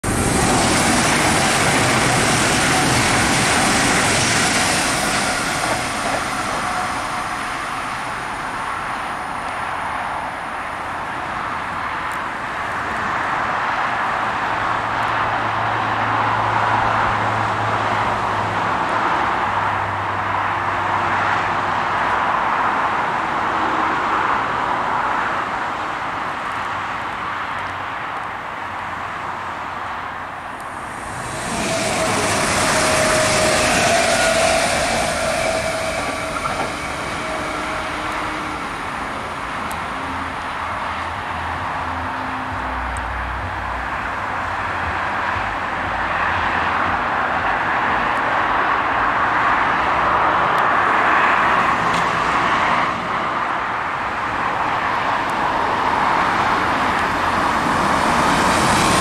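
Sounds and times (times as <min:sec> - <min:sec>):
train wheels rolling on rails: 0:00.0 - 0:19.7, 0:21.8 - 0:59.0
train low steady hum: 0:00.0 - 0:20.8, 0:21.4 - 0:59.0.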